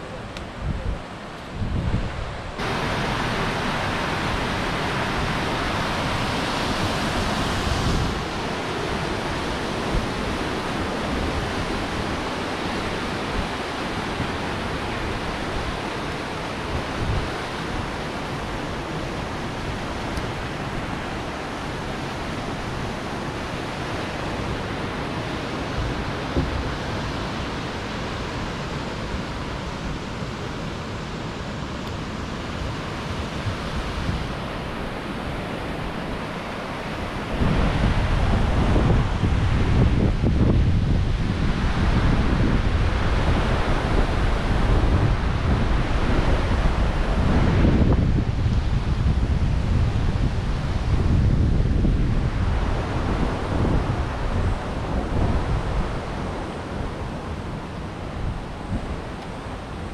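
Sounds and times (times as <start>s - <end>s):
river rushing over rocks: 0.0s - 59.9s
wind rumble on microphone: 0.0s - 59.9s.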